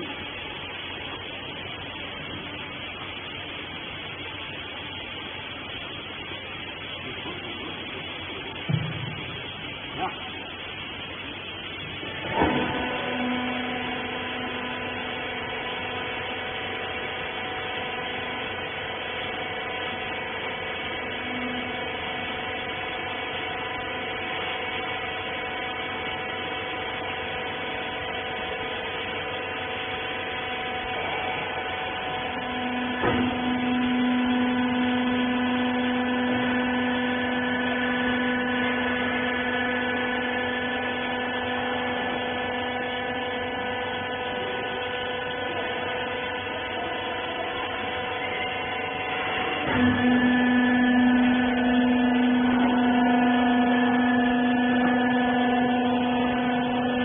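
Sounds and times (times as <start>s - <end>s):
hydraulic pump and motor humming: 0.0s - 57.0s.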